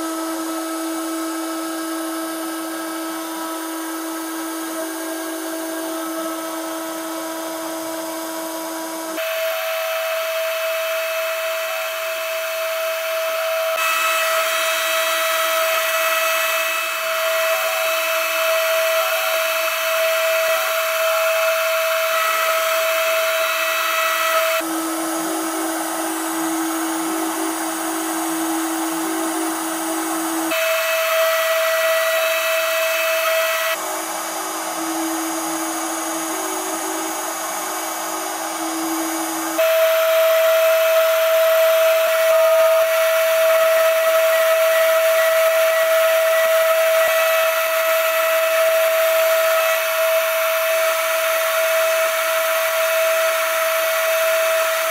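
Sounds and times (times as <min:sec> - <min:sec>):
milling machine whine: 0:00.0 - 0:54.9.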